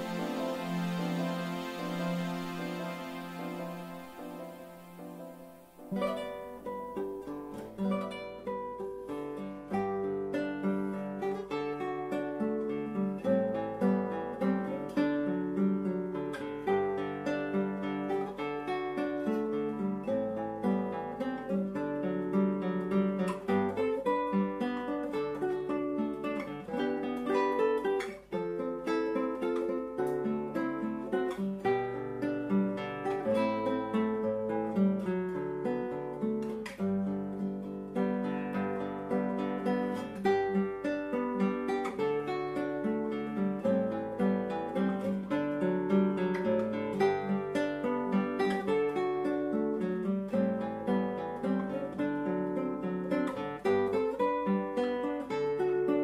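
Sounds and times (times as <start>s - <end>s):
acoustic guitar tune: 0.0s - 56.0s.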